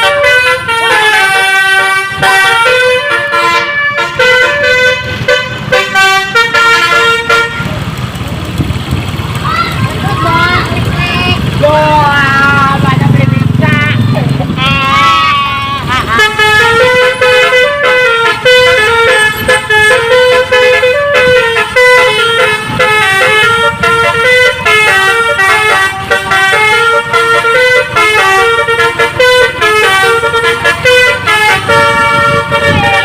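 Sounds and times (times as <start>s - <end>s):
multi-tone vehicle horn tune: 0.0s - 8.4s, 10.1s - 33.0s.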